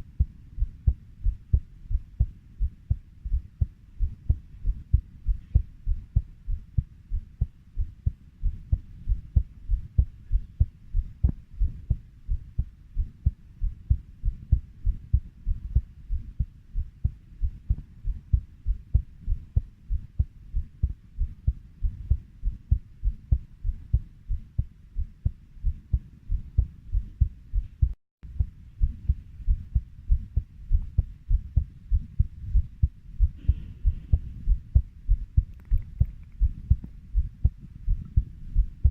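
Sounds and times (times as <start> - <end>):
human heartbeat thumps: 0.0 - 38.9.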